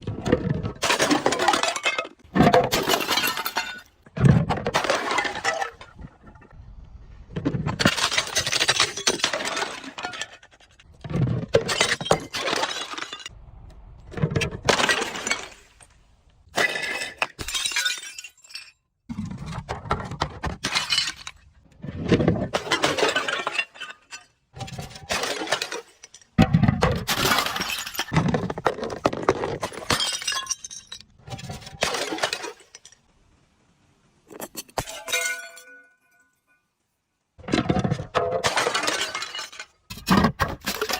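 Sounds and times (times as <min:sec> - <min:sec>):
glass bottles crushing and shattering: 0:00.1 - 0:06.6, 0:07.4 - 0:13.3, 0:14.2 - 0:33.0, 0:34.3 - 0:36.6, 0:37.4 - 0:40.9.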